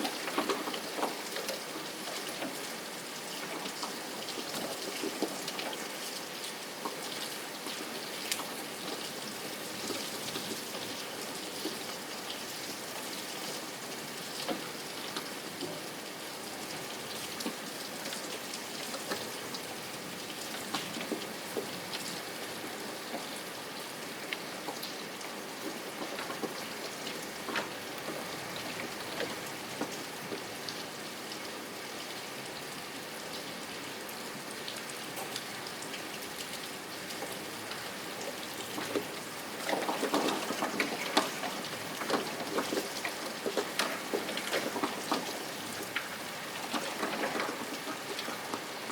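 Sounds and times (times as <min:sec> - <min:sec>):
rain falling: 0:00.0 - 0:48.9
raindrops pattering: 0:00.0 - 0:48.9.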